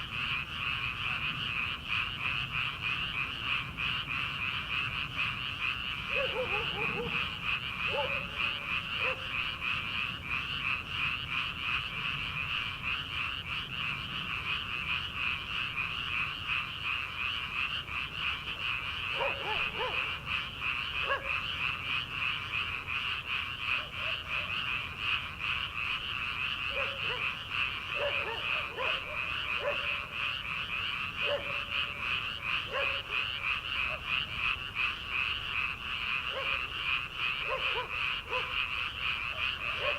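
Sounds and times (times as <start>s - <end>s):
frogs croaking in chorus: 0.0s - 39.9s
lower frog calls: 0.0s - 39.9s.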